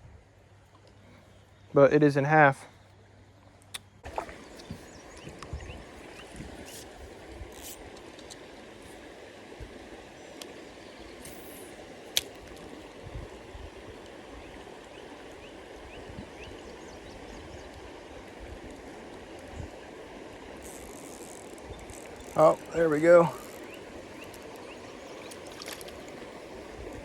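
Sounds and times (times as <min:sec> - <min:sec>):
river water flowing: 0:00.2 - 0:27.0.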